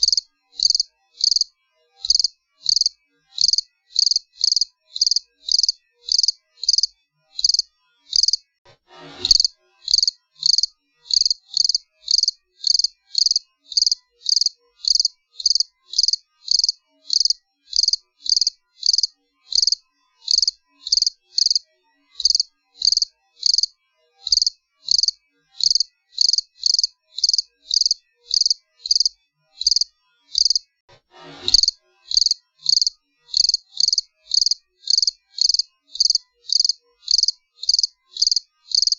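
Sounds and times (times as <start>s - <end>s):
cricket chirping: 0.0s - 8.5s, 9.3s - 21.6s, 22.2s - 23.7s, 24.3s - 30.6s, 31.6s - 38.9s.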